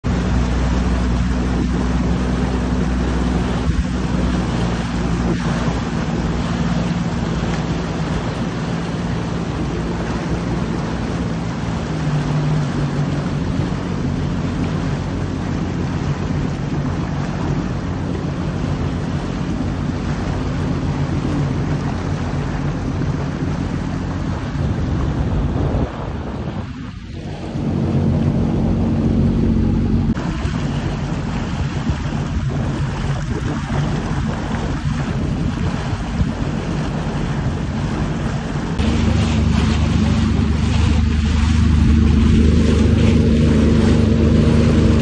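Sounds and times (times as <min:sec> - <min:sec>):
jet ski engine running: 0:00.0 - 0:45.0
water rushing past hull: 0:00.0 - 0:45.0
wind on microphone: 0:00.0 - 0:45.0.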